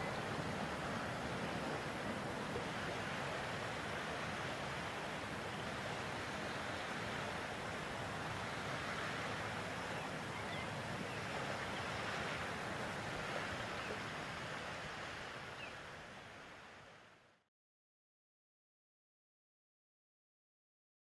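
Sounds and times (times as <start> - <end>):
small waves: 0.0 - 17.4
wind: 0.0 - 17.5.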